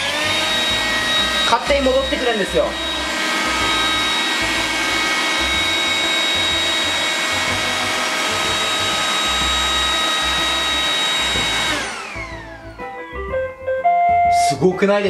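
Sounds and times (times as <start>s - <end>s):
robot vacuum whining: 0.0s - 13.4s.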